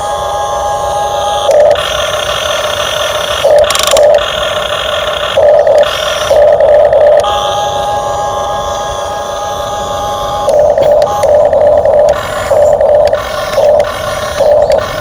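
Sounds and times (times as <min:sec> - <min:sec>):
hydraulic pump motor whining: 0:00.0 - 0:15.0.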